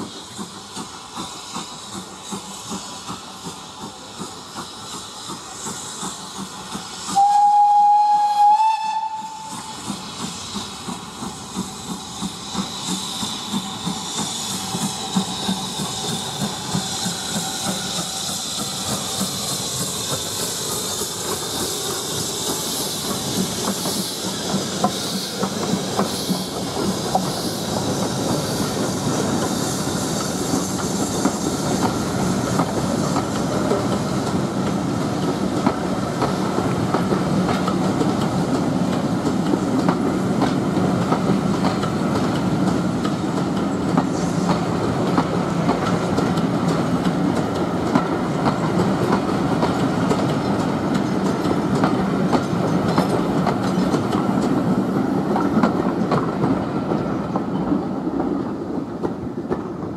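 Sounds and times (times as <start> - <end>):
steam hiss: 0.0 - 59.9
train coaches rumbling past: 0.0 - 59.9.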